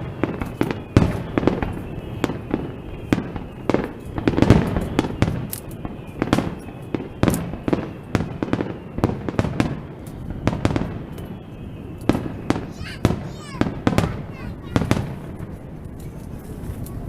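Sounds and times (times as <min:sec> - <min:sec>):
rumble of echoing booms: 0:00.0 - 0:16.0
fireworks bursting with sharp bangs: 0:00.0 - 0:17.0.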